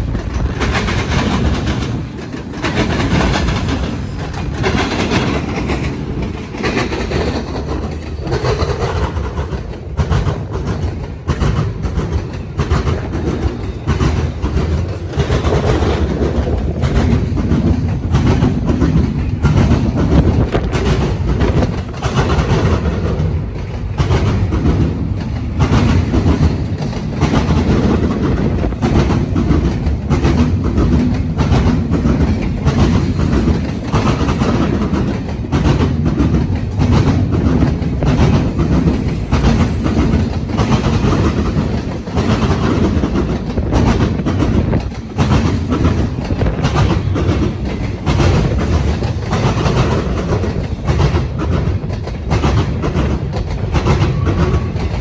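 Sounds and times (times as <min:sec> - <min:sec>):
freight train passing: 0:00.0 - 0:55.0.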